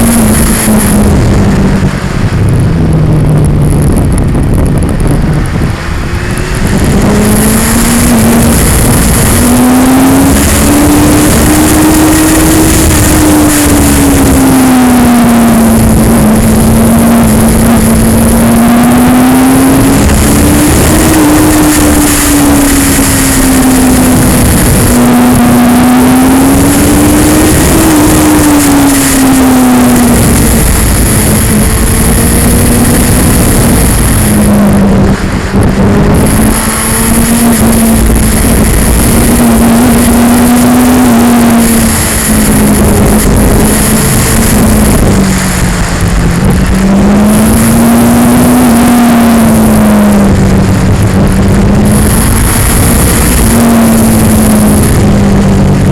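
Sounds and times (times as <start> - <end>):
motorcycle engine revving: 0.0 - 55.9
wind noise: 0.0 - 55.9.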